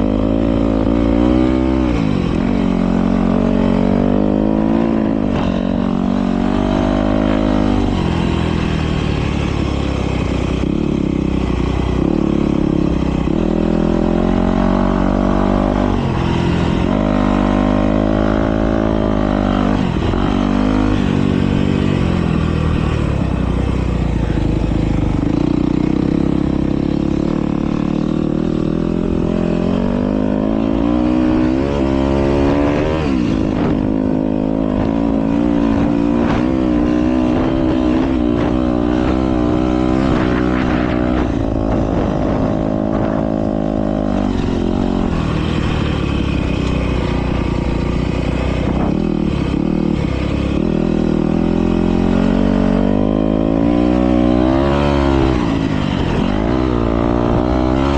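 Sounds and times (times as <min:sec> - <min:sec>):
motocross bike engines revving: 0:00.0 - 0:57.9.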